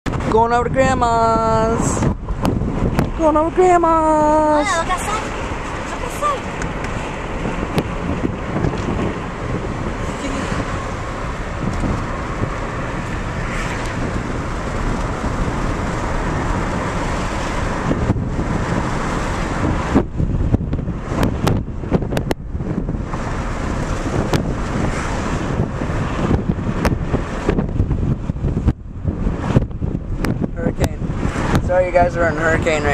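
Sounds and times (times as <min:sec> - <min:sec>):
road noise: 0:00.0 - 0:32.9
wind buffeting microphone: 0:00.0 - 0:32.9
wind rushing through car window: 0:00.0 - 0:32.9.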